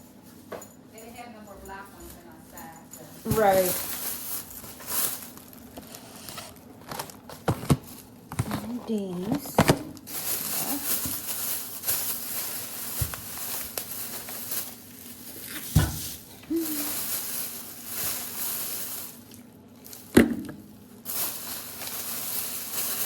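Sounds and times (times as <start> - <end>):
bags and packaging rustling: 0.2 - 23.0.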